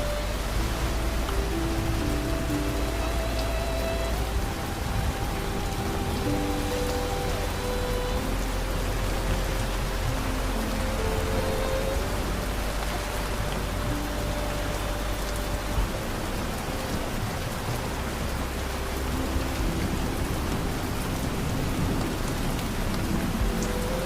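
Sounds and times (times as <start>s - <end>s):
ambient music: 0.0s - 24.0s
steady rain falling: 0.0s - 24.0s.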